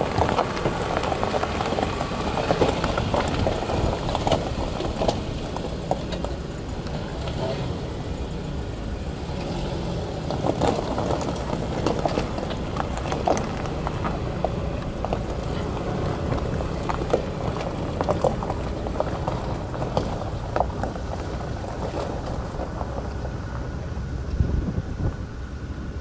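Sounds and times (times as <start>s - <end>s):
wind buffeting microphone: 0.0s - 7.2s, 10.4s - 26.0s
car engine idling: 0.0s - 26.0s.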